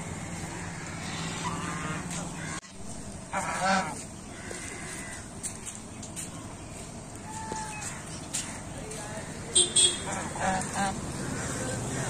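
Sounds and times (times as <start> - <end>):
geese honking: 0.0 - 5.6, 7.2 - 12.0.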